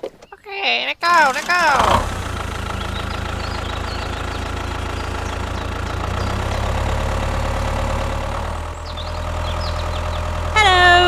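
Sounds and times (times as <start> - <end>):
small tractor engine droning: 1.0 - 11.0.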